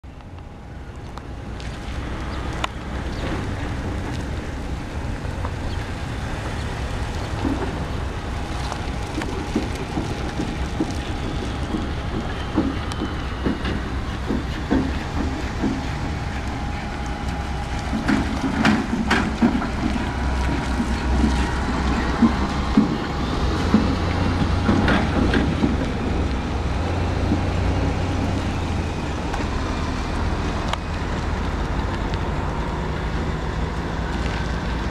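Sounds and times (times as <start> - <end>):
pickup truck engine running: 0.0 - 34.9
tyres rolling on pavement: 0.0 - 34.9.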